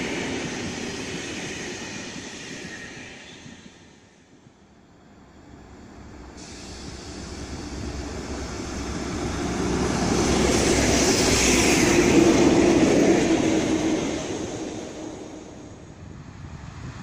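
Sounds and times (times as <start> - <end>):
diesel locomotive engines droning: 0.0 - 17.0.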